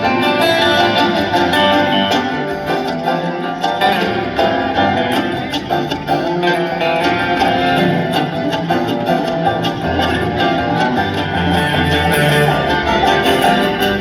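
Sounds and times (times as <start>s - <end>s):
banjo: 0.0s - 14.0s
fast-picked acoustic guitar: 0.0s - 14.0s
fiddle: 0.0s - 14.0s.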